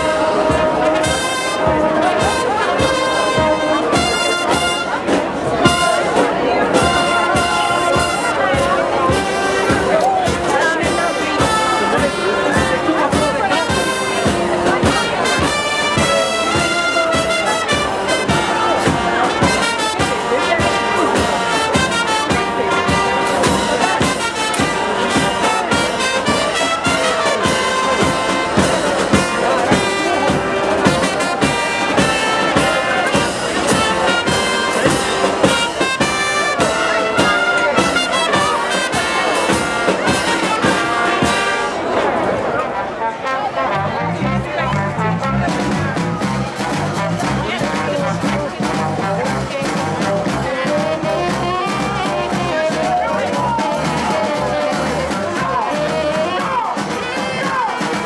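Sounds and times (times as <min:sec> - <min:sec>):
steady drum beat: 0:00.0 - 0:42.2, 0:43.8 - 0:58.0
brass band playing: 0:00.0 - 0:58.0
trumpets and trombones: 0:00.0 - 0:58.0.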